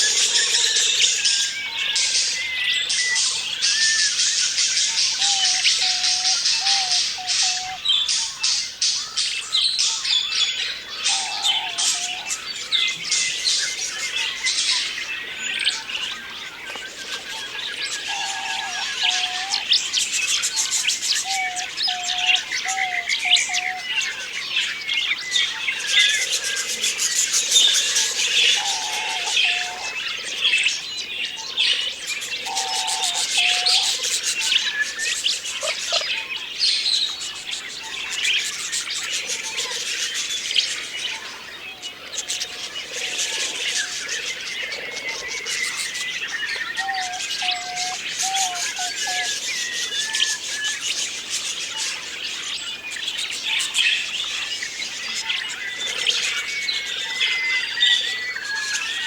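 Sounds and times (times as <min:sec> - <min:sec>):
budgerigars chattering: 0:10.9 - 0:59.0.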